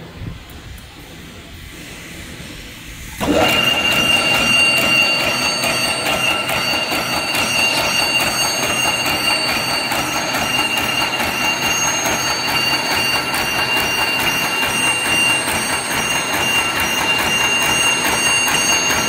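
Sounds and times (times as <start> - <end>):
steady high whine: 0.0 - 19.0.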